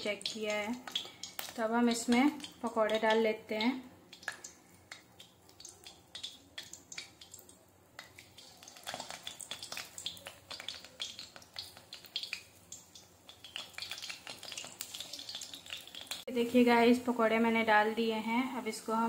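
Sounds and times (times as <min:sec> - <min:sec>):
batter frying in hot oil: 0:00.0 - 0:19.0.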